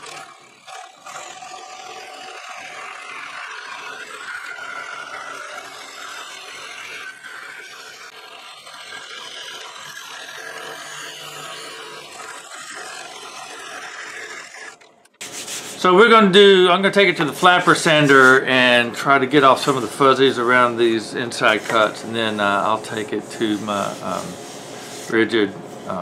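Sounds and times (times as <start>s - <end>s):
scroll saw cutting wood: 0.0s - 26.0s.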